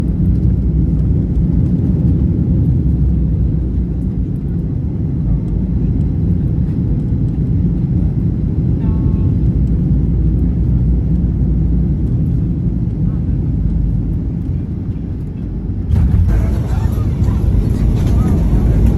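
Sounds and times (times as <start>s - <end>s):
jet engines rumbling: 0.0s - 18.9s.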